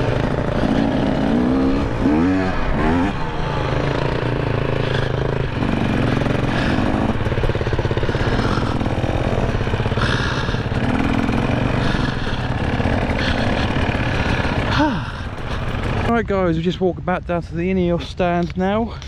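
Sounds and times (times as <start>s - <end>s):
dirt bike engines running: 0.0s - 19.0s.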